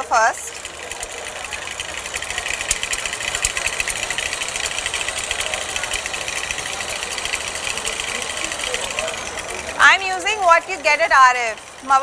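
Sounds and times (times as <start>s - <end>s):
stand mixer rattling: 0.0s - 12.0s.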